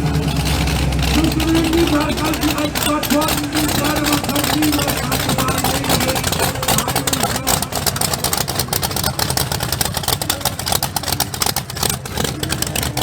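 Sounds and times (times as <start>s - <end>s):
background voices: 0.0s - 13.0s
car engine running: 0.0s - 13.0s.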